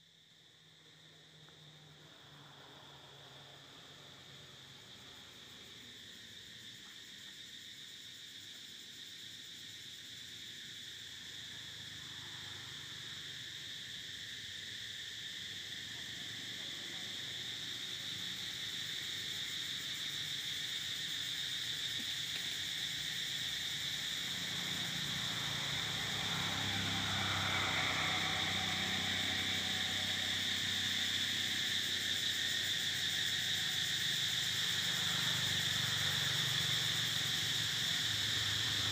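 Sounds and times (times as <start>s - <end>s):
high-pitched insect drone: 0.0s - 38.9s.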